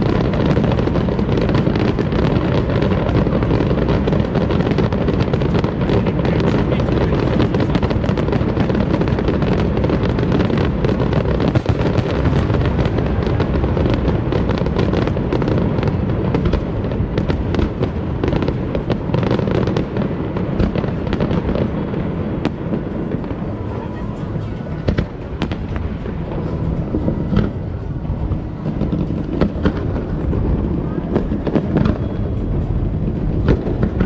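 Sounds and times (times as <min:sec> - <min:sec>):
crackling sparks: 0:00.0 - 0:34.0
fireworks booming: 0:00.0 - 0:34.0.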